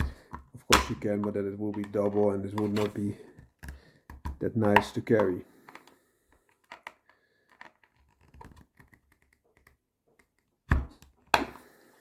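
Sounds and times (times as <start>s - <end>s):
hands handling leather case: 0.0s - 11.7s.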